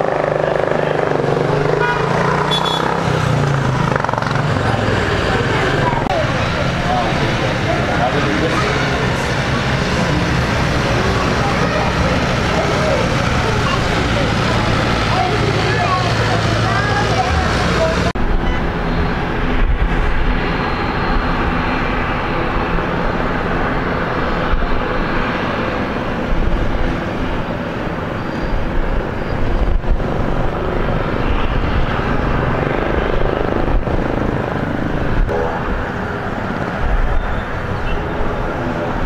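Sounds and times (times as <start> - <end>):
jet engines rumbling at takeoff: 2.6 - 39.0.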